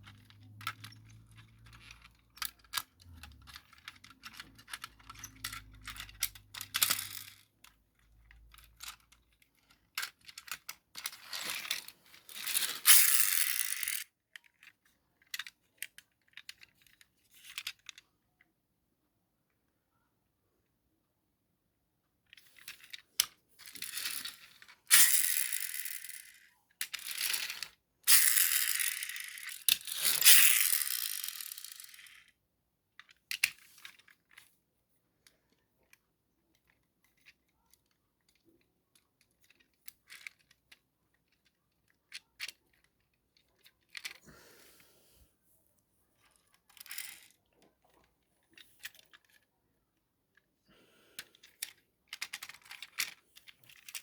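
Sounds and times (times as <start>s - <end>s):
small clicks and rustles: 0.0s - 18.7s, 22.2s - 44.3s, 45.8s - 50.6s, 51.2s - 54.0s.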